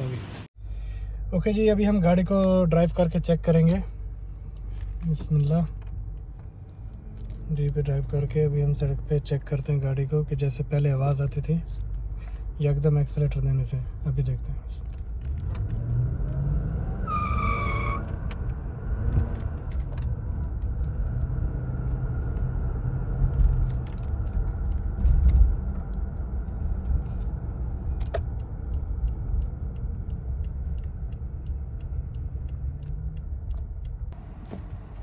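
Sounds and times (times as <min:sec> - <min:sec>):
engine and road rumble in cabin: 0:00.0 - 0:35.0.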